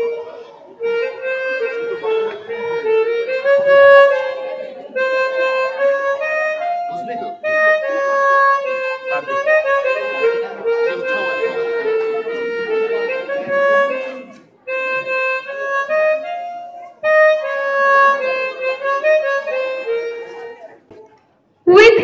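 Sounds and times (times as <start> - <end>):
harmonica melody: 0.0 - 20.9.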